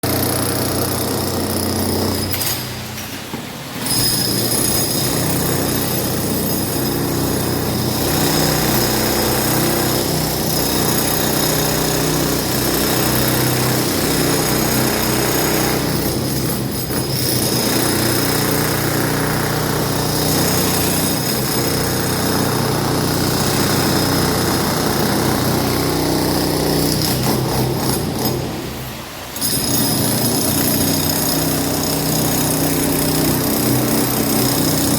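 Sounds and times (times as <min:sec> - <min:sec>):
power tool cutting concrete: 0:00.0 - 0:02.4, 0:03.8 - 0:28.6, 0:29.4 - 0:34.9.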